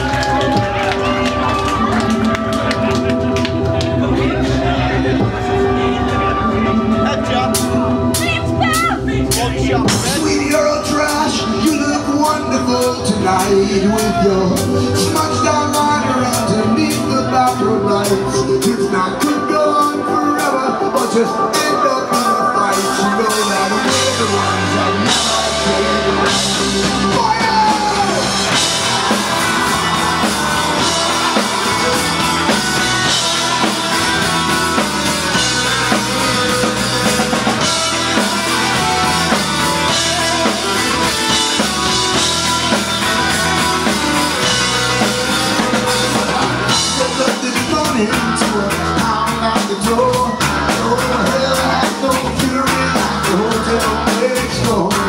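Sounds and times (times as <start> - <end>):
punk rock band playing live: 0.0 - 55.0
man singing: 2.8 - 8.5, 9.2 - 55.0.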